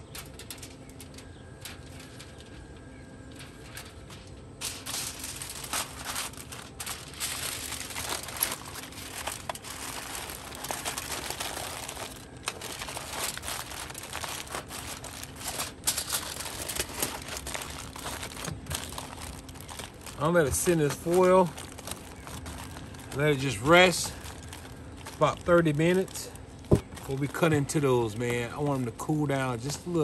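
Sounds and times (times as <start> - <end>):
aluminum foil crinkling: 0.0 - 30.0.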